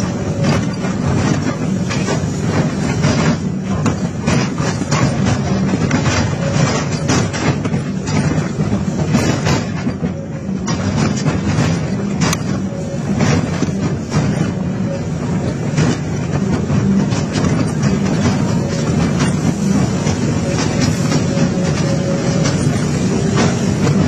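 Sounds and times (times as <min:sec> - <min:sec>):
diesel engine under load: 0:00.0 - 0:24.0
metal clanks bangs and scraping: 0:00.0 - 0:24.0.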